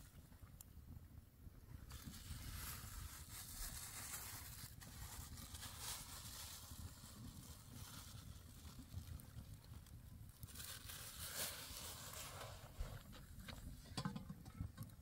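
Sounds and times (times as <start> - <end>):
soft rustling hiss: 1.8 - 15.0.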